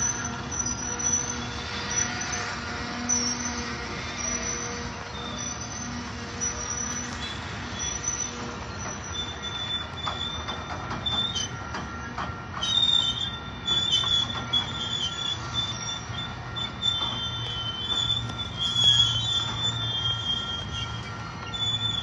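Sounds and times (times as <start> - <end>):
high-pitched wheel squeal: 0.0 - 22.0
train cars rumbling past: 0.0 - 22.0
wheels clicking over rail joints: 0.0 - 22.0.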